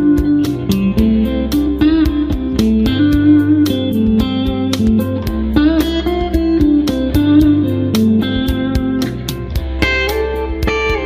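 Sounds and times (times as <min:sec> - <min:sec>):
bass line: 0:00.0 - 0:11.0
drum beat: 0:00.0 - 0:11.0
guitar: 0:00.0 - 0:11.0.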